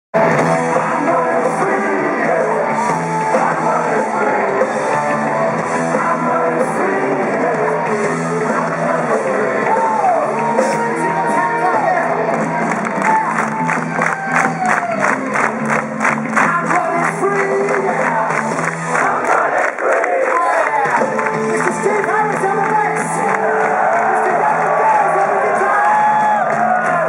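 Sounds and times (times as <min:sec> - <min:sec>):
heavy metal band playing: 0:00.2 - 0:19.2, 0:20.7 - 0:27.0.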